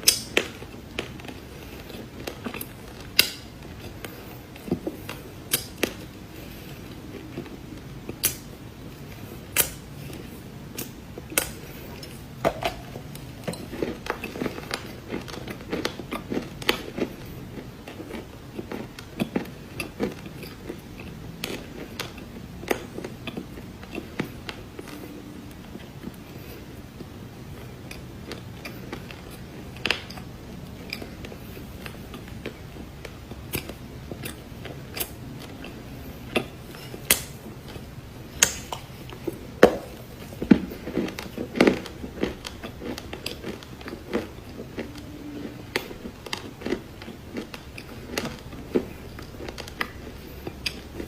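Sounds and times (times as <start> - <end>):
cookies crunching while chewed: 0.0 - 51.0.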